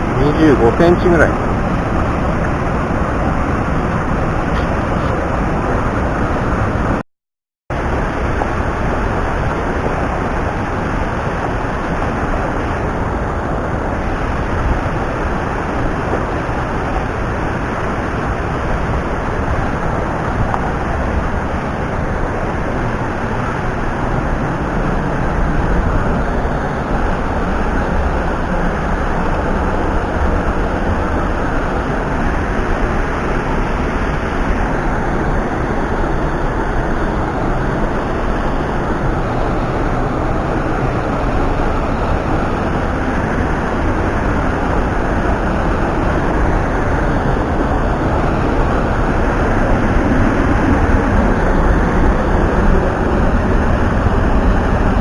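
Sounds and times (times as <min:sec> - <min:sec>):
stream water rushing: 0:00.0 - 0:07.0, 0:07.7 - 0:55.0.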